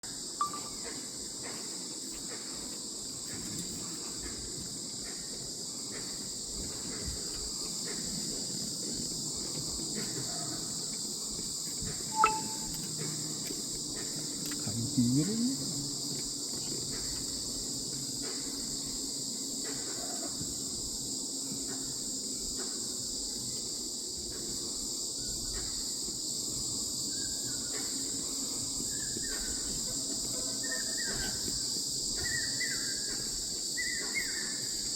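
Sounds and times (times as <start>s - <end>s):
insect chorus: 0.0s - 34.9s.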